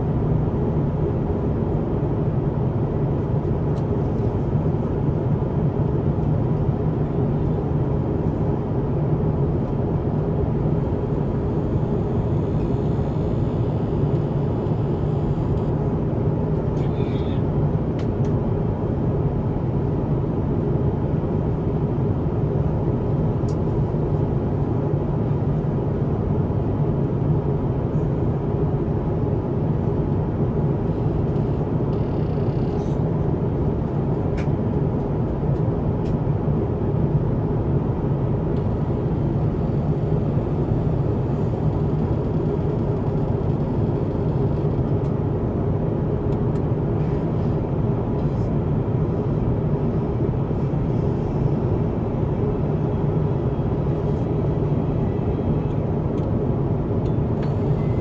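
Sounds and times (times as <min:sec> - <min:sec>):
airliner cabin noise: 0:09.4 - 0:58.0.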